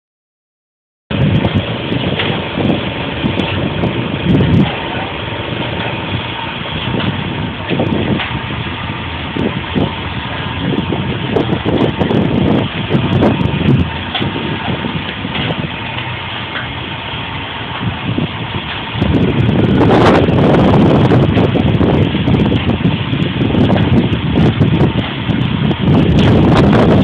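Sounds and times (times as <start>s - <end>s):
engine-like running noise: 1.1s - 27.0s
low rumbles: 1.1s - 27.0s.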